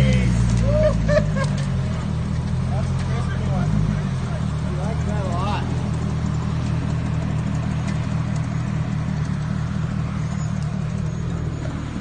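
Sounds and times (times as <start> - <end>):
buggy engine running steadily: 0.0 - 12.0.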